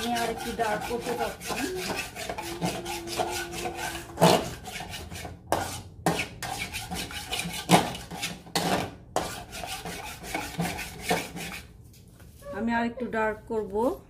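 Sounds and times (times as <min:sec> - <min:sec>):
spoon scraping a pan: 0:00.0 - 0:11.7.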